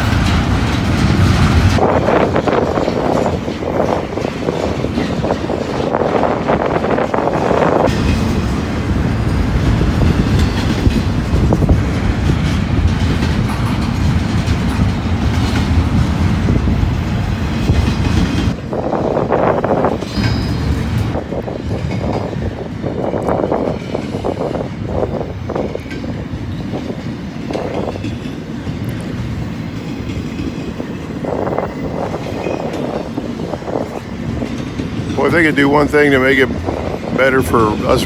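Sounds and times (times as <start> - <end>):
freight train wheels clacking: 0.0 - 38.0
wind buffeting microphone: 0.0 - 38.0.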